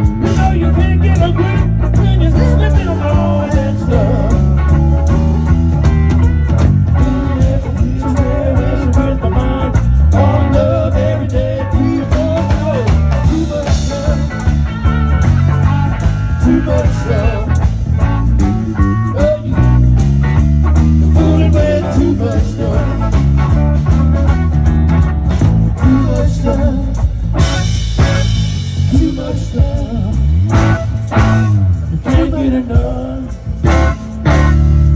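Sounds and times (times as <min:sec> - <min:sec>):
blues-rock band playing: 0:00.0 - 0:34.9
electric guitar lead: 0:00.0 - 0:34.9.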